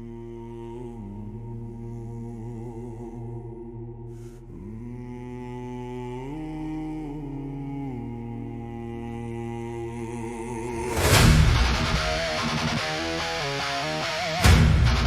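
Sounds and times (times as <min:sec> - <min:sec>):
low drone: 0:00.0 - 0:13.6
wordless choir chanting: 0:00.0 - 0:15.0.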